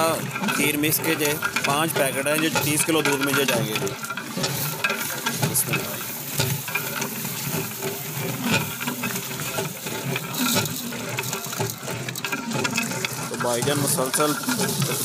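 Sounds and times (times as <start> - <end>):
metal clinks and scrapes: 0.0 - 15.0.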